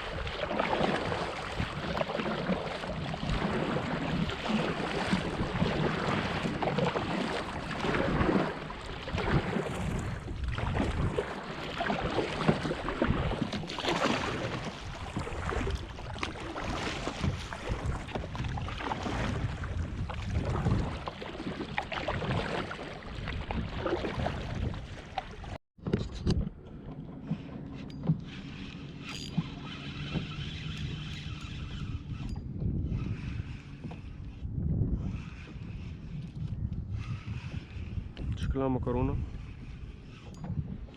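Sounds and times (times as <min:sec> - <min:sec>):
water splashing around kayak: 0:00.0 - 0:40.9
wind buffeting microphone: 0:00.0 - 0:40.9.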